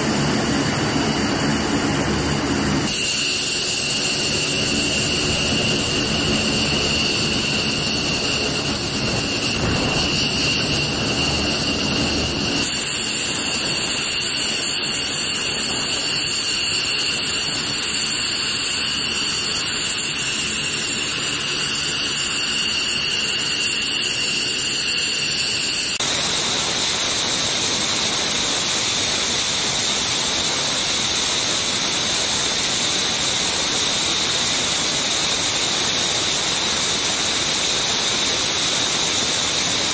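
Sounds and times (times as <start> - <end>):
jet engines whining and rushing: 0.0 - 39.9.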